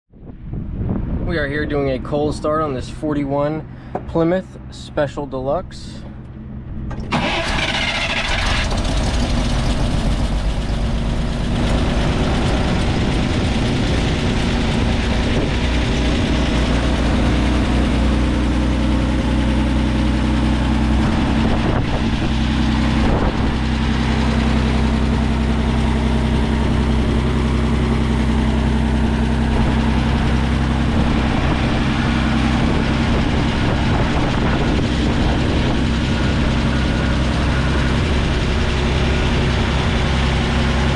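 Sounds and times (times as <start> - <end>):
car engine cold start and idle: 2.0 - 40.9.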